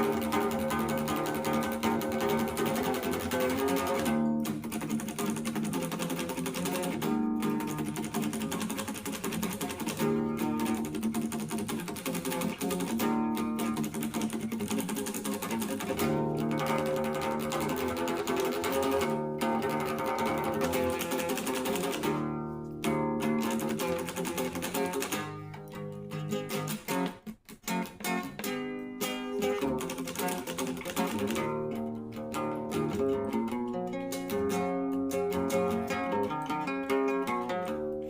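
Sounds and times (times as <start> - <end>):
plucked string music: 0.0 - 38.0.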